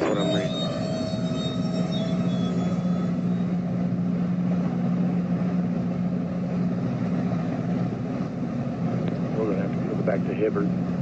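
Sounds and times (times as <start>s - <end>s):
diesel locomotive engine running: 0.0s - 11.0s.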